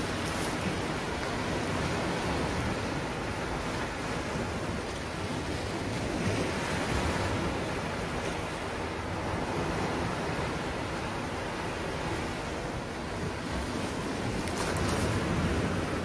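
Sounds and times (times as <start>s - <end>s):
waves breaking on rocky shore: 0.0s - 16.0s.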